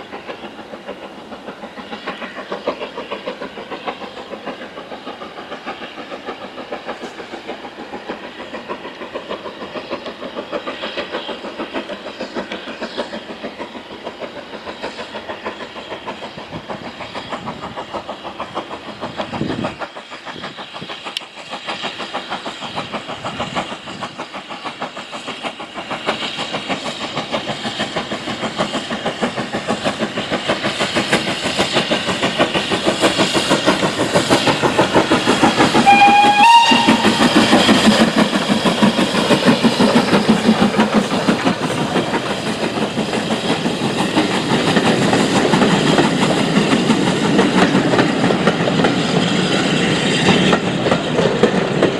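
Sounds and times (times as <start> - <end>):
steam locomotive exhaust beats: 0.0 - 51.9.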